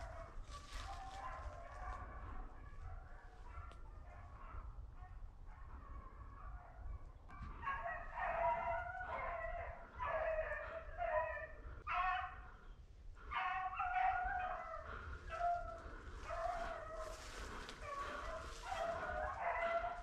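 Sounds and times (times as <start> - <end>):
dogs baying: 0.0 - 20.0.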